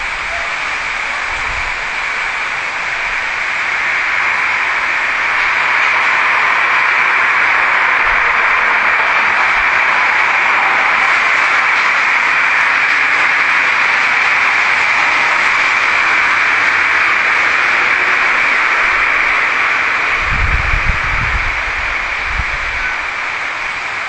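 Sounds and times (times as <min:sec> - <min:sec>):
loud recording hiss: 0:00.0 - 0:24.0.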